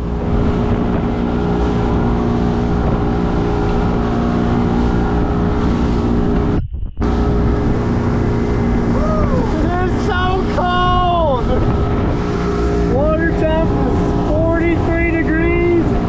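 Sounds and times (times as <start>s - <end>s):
boat engine running: 0.0s - 16.0s
wind and water rushing: 0.0s - 16.0s.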